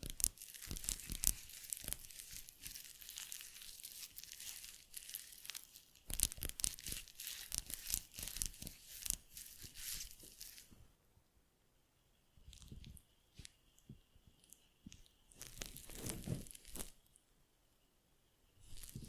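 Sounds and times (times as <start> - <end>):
sharp crackles: 0.0 - 10.8, 12.4 - 17.2, 18.6 - 19.0
crinkling and rustling: 0.0 - 10.9, 12.4 - 17.2, 18.6 - 19.0.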